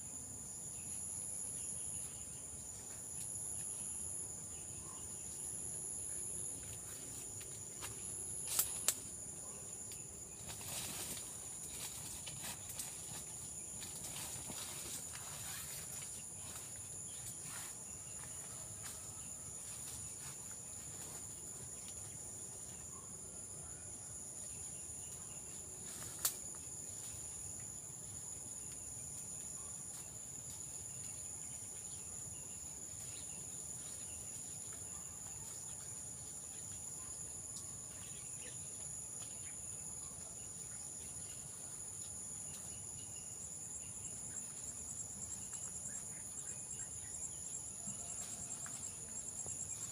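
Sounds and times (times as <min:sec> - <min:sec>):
insects chorus: 0:00.0 - 0:49.9.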